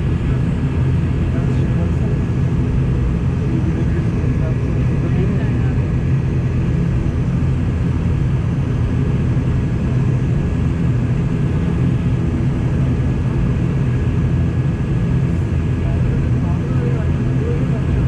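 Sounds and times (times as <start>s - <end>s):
airliner engines droning: 0.0s - 18.0s
engine whine: 0.0s - 18.0s.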